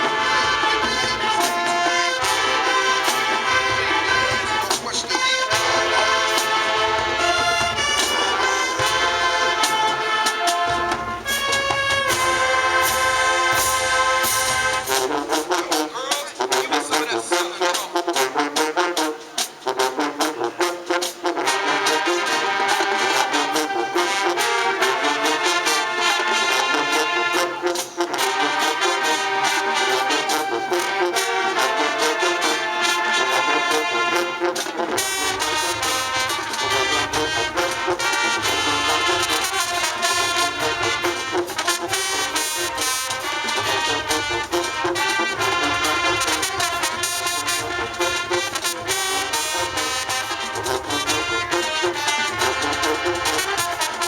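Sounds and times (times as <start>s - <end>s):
brass horns: 0.0s - 54.0s
drums: 0.0s - 54.0s.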